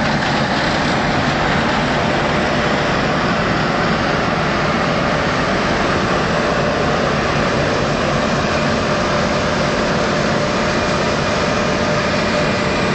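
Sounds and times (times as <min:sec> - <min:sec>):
combine harvester running: 0:00.0 - 0:12.9.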